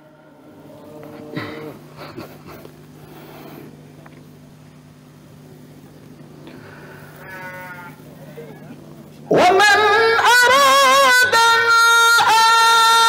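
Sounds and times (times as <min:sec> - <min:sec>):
sound system hum: 0:00.0 - 0:13.0.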